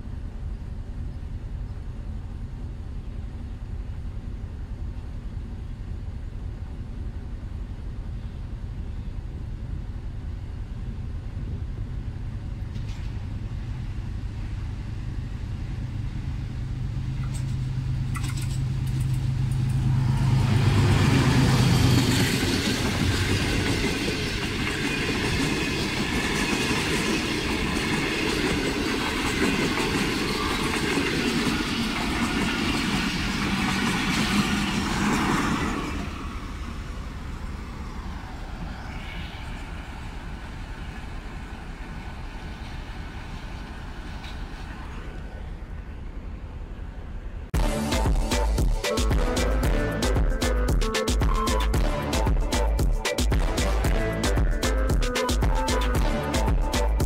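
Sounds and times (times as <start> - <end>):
locomotive engine drone: 0.0 - 57.0
train wheels rushing on rails: 9.8 - 57.0.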